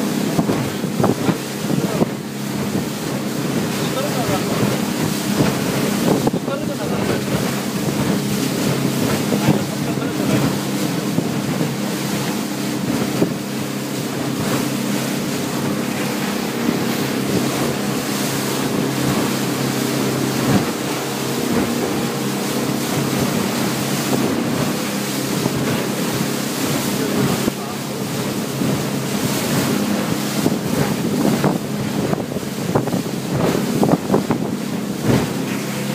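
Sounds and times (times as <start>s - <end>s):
speedboat engine running: 0.0s - 35.9s
water along hull: 0.0s - 35.9s
wind on microphone: 0.0s - 35.9s.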